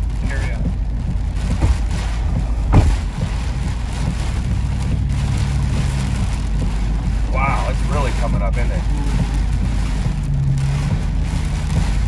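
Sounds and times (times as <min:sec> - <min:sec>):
heavy rain and rushing water: 0:00.0 - 0:12.0
vehicle engine and tyre rumble: 0:00.0 - 0:12.0.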